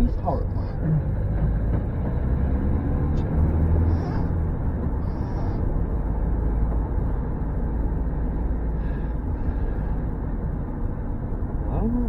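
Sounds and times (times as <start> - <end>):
vehicle road and engine rumble: 0.0 - 12.0.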